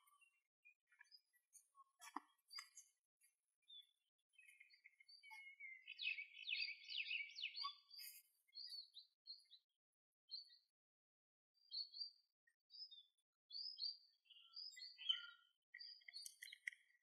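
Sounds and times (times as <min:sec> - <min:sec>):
small birds chirping: 0:00.0 - 0:10.8, 0:11.5 - 0:17.0.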